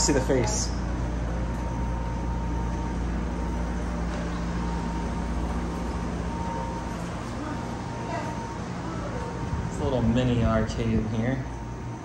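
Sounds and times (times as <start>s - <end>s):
faint high whine: 0.0s - 12.0s
low mechanical hum: 0.0s - 12.0s.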